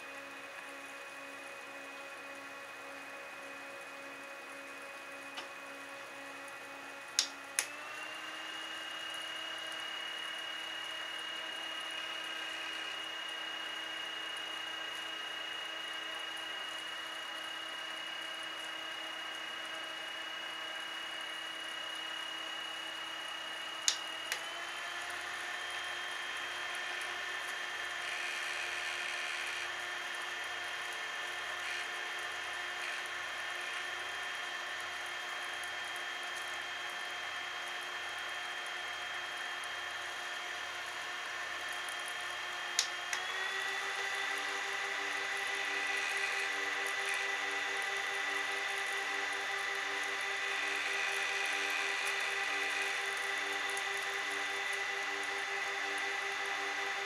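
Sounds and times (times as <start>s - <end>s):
small fan motors whining: 0.0s - 57.0s.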